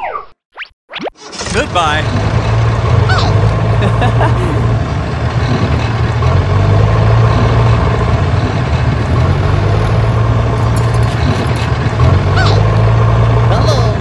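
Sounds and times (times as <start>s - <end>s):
tractor engine running: 1.2s - 14.0s.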